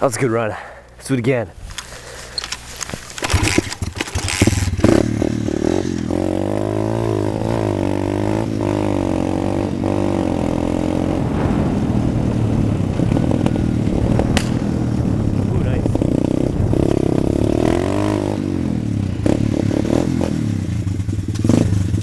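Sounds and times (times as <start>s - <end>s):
pit bike engine revving: 3.2s - 22.0s.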